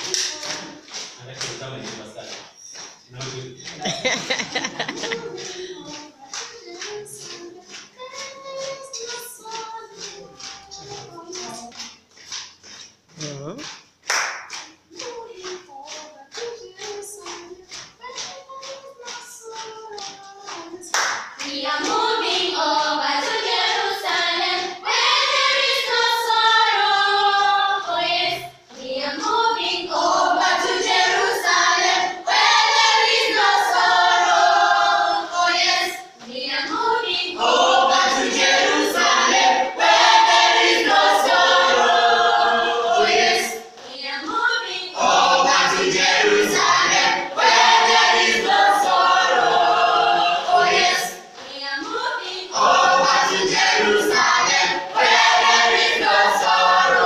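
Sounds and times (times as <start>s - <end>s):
choir singing unaccompanied: 0.0s - 0.9s, 3.8s - 11.9s, 14.9s - 57.0s.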